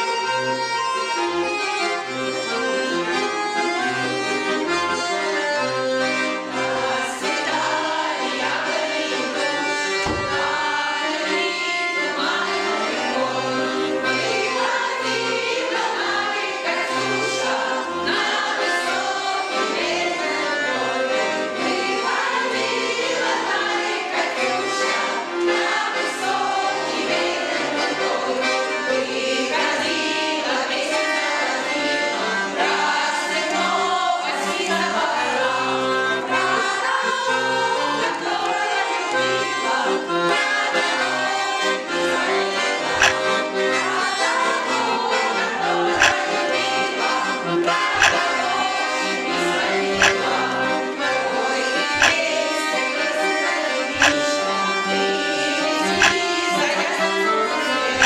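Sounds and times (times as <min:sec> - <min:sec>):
accordion: 0:00.0 - 0:58.0
women singing together: 0:01.8 - 0:58.0.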